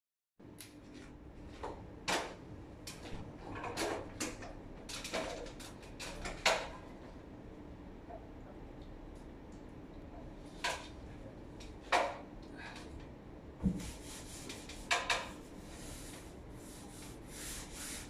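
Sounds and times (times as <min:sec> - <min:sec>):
low steady hum: 0:00.4 - 0:18.0.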